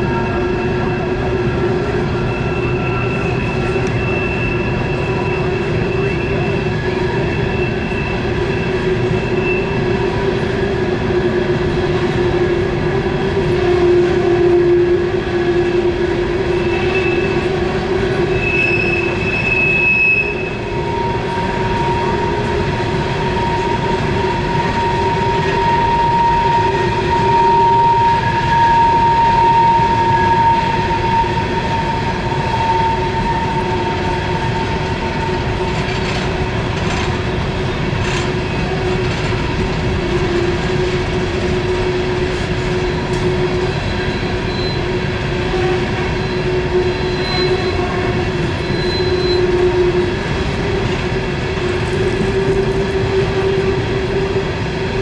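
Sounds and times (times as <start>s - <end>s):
rumble of train wheels: 0.0s - 55.0s
train wheels screeching on rails: 0.0s - 55.0s.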